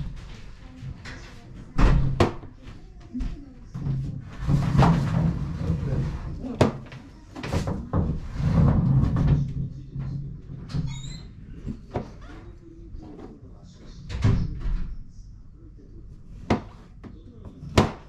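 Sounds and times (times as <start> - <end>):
television talking: 0.0 - 18.0.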